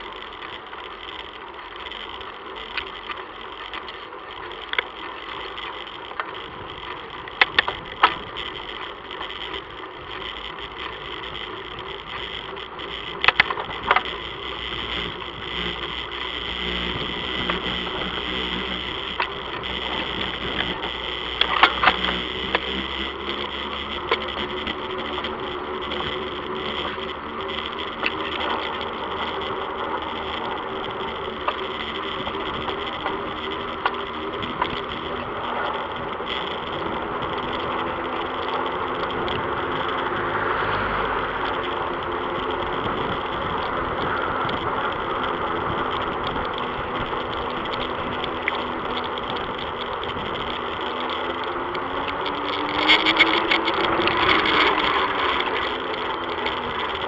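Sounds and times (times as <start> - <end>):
bicycle rattling over bumps: 0.0 - 57.0
bicycle tyre and wind noise: 0.0 - 57.0.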